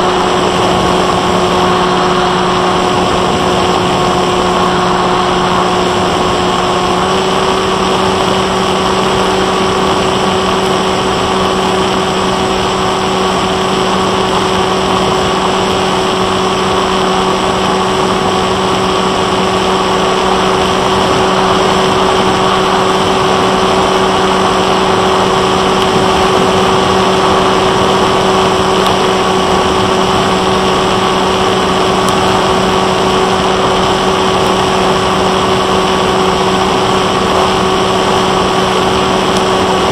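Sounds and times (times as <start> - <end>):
electric motor propeller hum: 0.0 - 39.9.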